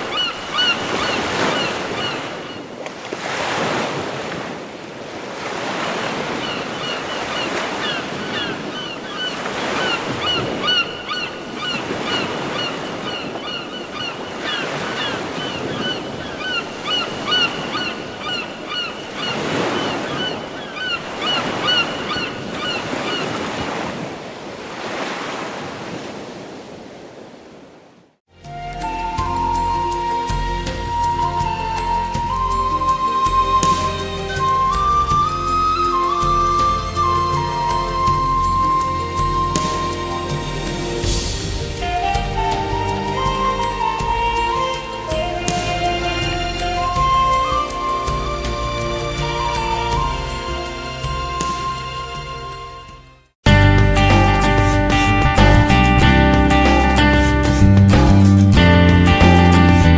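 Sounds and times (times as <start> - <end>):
ocean waves washing: 0.0 - 57.8.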